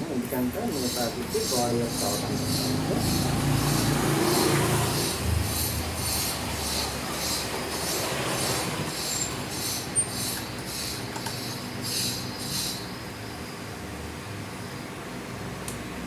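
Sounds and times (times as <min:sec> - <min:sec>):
rhythmic high-pitched rasping: 0:00.0 - 0:12.9.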